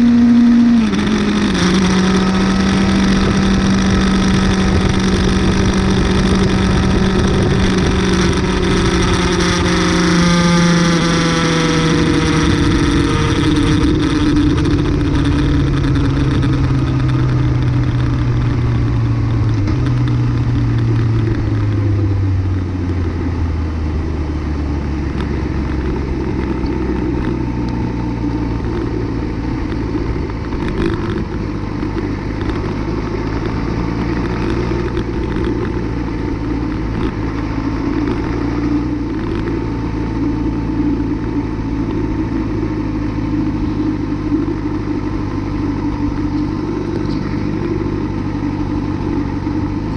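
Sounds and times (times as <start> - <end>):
motorcycle engine: 0.0 - 49.9.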